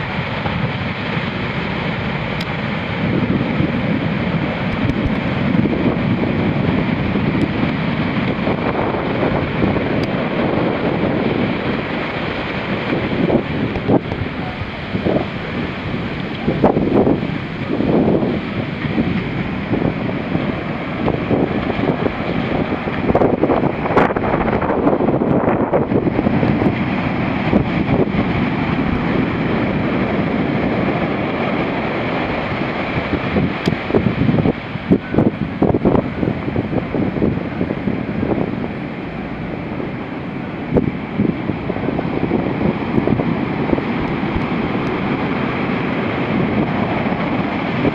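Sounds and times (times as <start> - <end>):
heavy surf breaking on sand: 0.0 - 47.9
wind buffeting microphone: 0.0 - 47.9.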